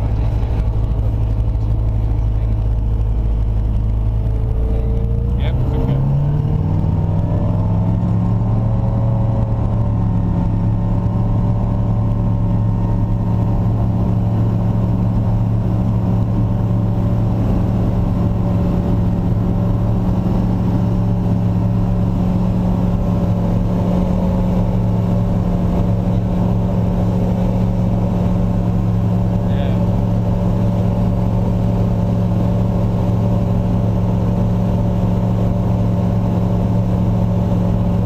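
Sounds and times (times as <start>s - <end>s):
steady engine drone: 0.0s - 38.0s.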